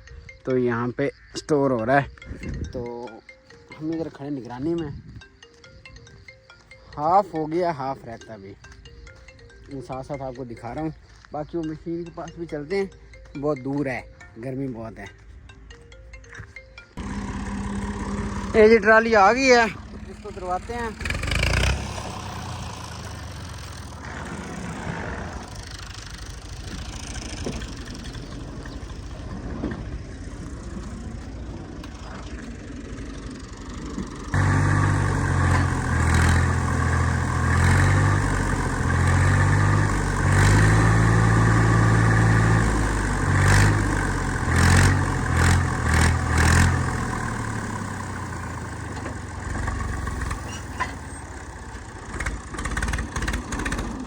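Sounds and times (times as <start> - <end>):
tractor engine idling and revving: 1.3 - 54.0.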